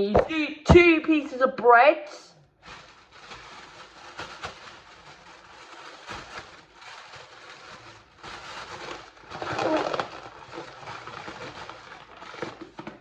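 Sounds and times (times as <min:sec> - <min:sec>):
rustling and handling noises: 0:02.5 - 0:13.0.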